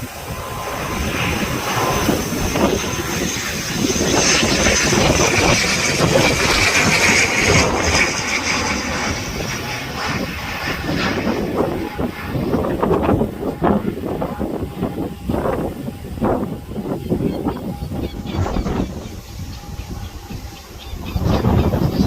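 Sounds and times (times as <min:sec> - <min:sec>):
turboprop engines and propellers: 0:00.0 - 0:22.0.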